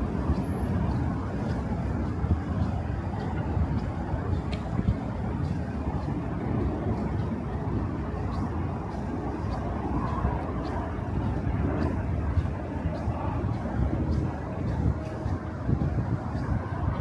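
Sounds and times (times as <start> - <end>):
city traffic rumble: 0.0 - 17.0
faint light ticks: 0.0 - 17.0.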